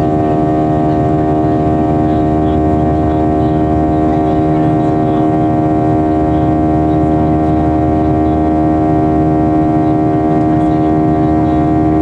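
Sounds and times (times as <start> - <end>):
jet engines droning in cabin: 0.0 - 12.0.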